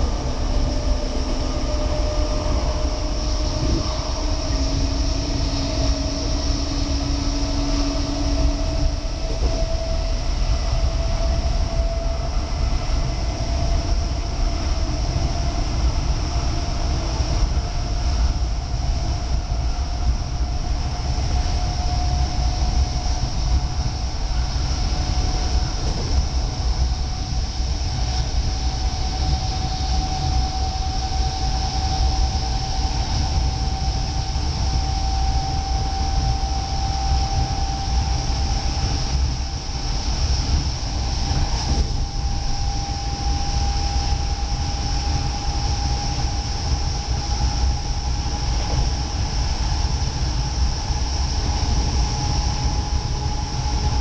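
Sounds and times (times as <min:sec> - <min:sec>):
rising train whine: 0:00.0 - 0:54.0
train wheels rumbling on track: 0:00.0 - 0:54.0.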